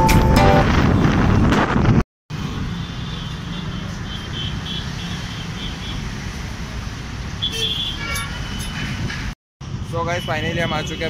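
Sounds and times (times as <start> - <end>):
road traffic rumble: 0.3 - 11.0.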